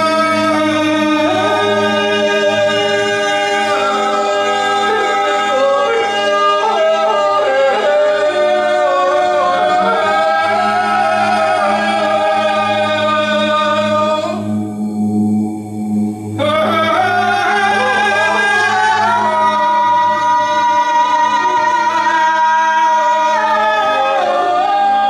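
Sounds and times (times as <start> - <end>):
low drone: 0.0 - 25.0
voices singing wordless music: 0.0 - 25.0.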